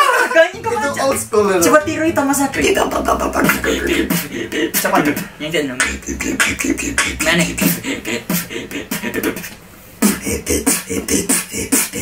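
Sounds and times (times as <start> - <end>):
beatboxing with inward bass: 0.5 - 12.0.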